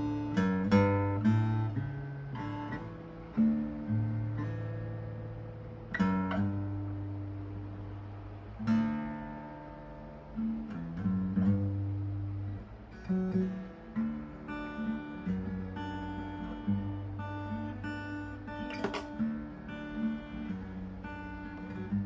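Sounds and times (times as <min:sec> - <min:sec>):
acoustic guitar strummed chords: 0:00.0 - 0:22.0.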